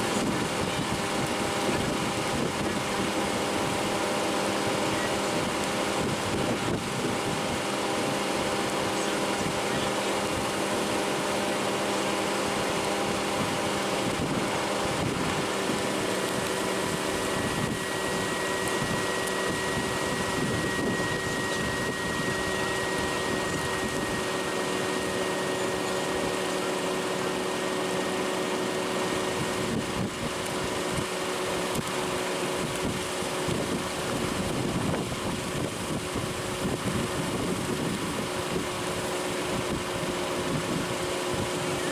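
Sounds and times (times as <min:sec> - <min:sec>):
vehicle engine hum: 0:00.0 - 0:41.9
ventilation fan: 0:00.0 - 0:41.9.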